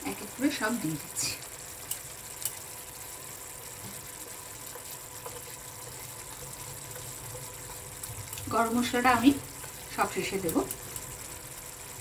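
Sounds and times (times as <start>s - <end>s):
gravy simmering hiss: 0.0s - 12.0s.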